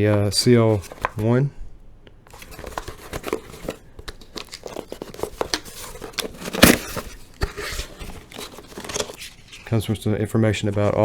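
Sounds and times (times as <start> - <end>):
paper packaging rustling: 0.3 - 1.4, 2.3 - 11.0.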